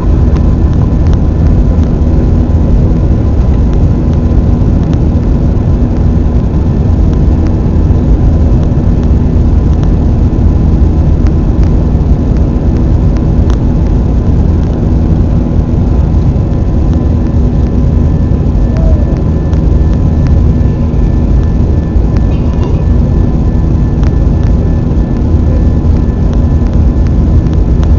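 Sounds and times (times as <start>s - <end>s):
constant hum: 0.0s - 27.9s
jet engine cabin drone: 0.0s - 27.9s.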